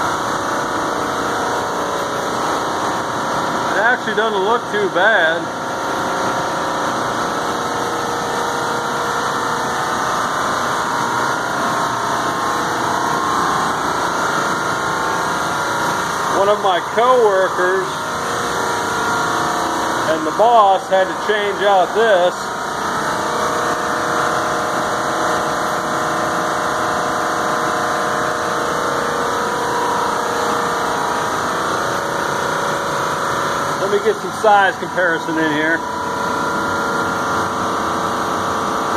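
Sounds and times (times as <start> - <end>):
air conditioning mechanical drone: 0.0 - 38.9.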